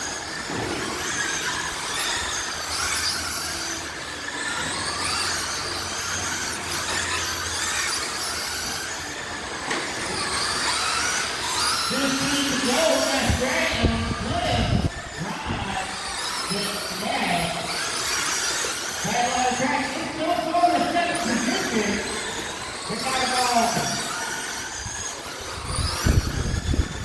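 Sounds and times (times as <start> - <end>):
rc cars whining: 0.0 - 27.0.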